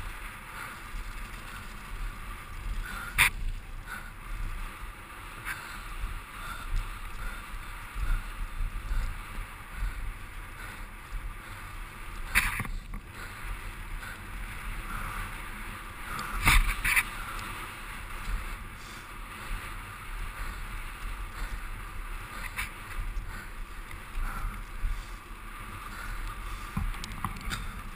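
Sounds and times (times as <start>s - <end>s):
bike rattling over bumps: 0.0s - 27.9s
tyres rolling on dirt: 0.0s - 27.9s
wind rushing over microphone: 0.0s - 27.9s.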